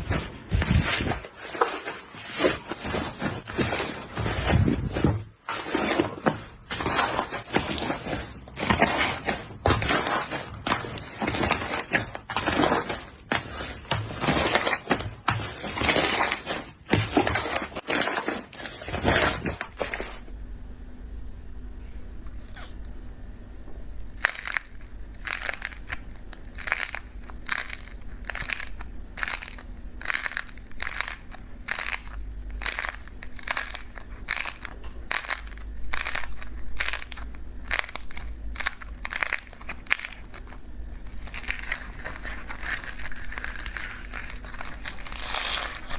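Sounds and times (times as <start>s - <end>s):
slime crackling and popping: 0.0s - 20.2s, 24.1s - 45.9s.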